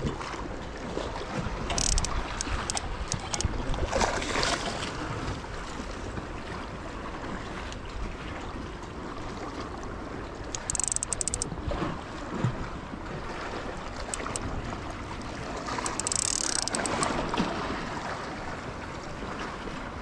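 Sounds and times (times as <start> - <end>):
sea waves on rocky shore: 0.0 - 20.0.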